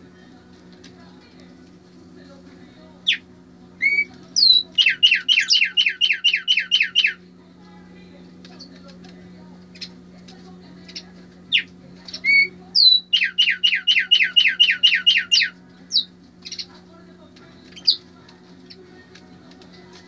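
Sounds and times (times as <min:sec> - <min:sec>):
songbird singing: 0:02.9 - 0:20.0.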